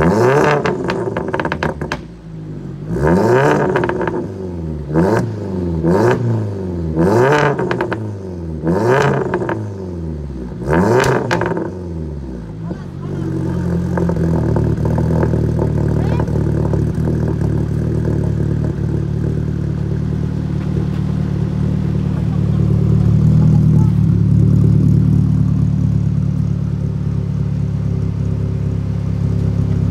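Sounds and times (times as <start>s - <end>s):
car engine idling: 0.0s - 29.9s
exhaust crackles: 0.0s - 29.9s.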